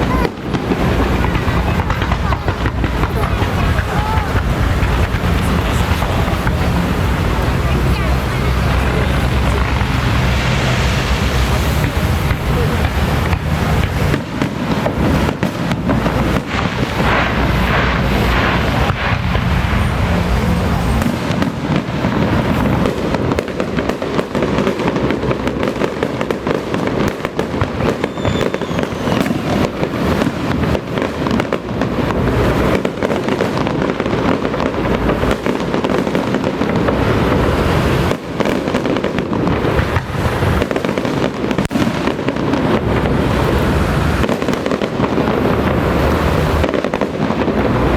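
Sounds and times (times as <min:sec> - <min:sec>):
firecrackers crackling: 0:00.0 - 0:47.9.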